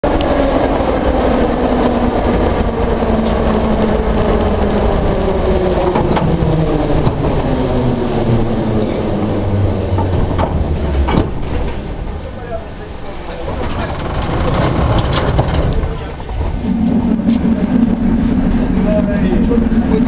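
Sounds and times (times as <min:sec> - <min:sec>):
heavy rumble of wheels on rails: 0:00.0 - 0:20.0.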